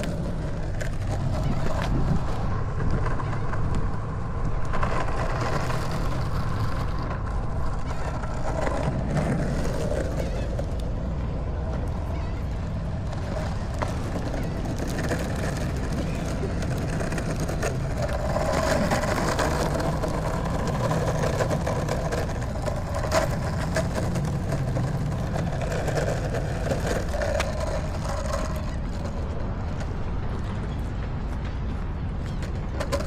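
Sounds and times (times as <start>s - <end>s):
wheels clicking over cracks: 0.0s - 11.0s, 11.6s - 30.6s, 32.2s - 33.0s
longboard wheels rolling on asphalt: 0.0s - 33.0s.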